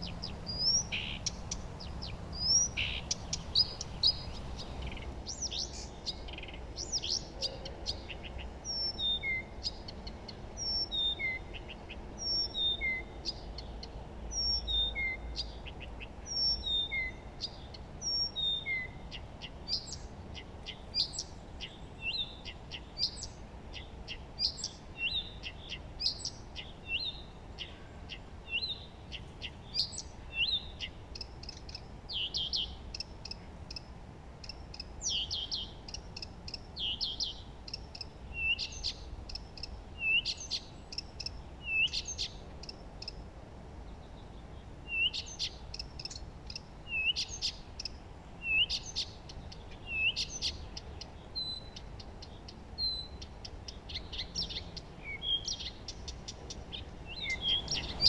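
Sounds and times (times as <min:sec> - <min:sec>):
faint steady hiss: 0:00.0 - 0:58.0
songbirds chirping: 0:00.0 - 0:58.0.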